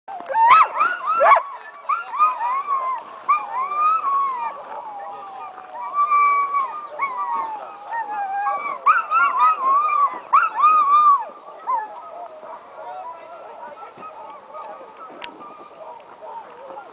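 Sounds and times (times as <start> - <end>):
dog yelps: 0.1 - 16.9
dogs howling and yipping: 0.1 - 16.9.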